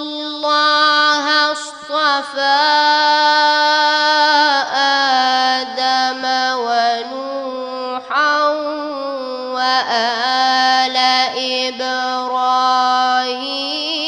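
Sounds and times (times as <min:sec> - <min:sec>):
boy reciting melodically: 0:00.0 - 0:14.0.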